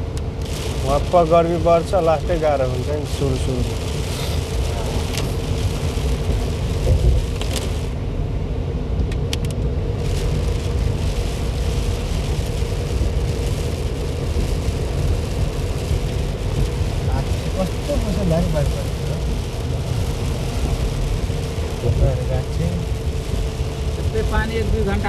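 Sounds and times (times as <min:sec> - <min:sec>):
car cabin rumble and hiss: 0:00.0 - 0:25.0
tyres on wet road: 0:00.0 - 0:25.0.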